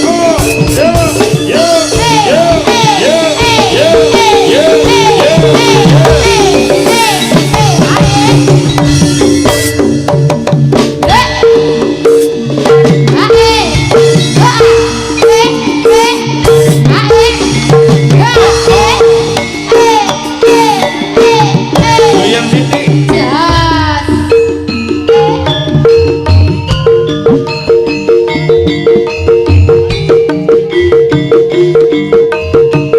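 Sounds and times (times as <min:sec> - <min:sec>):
drums: 0:00.0 - 0:32.9
high sliding melody: 0:00.0 - 0:32.9.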